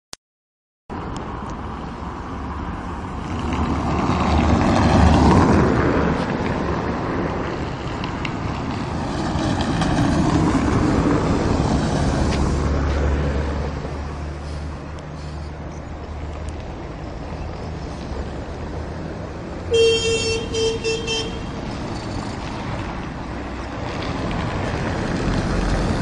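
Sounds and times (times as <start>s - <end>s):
road traffic rumble: 0.9s - 26.0s.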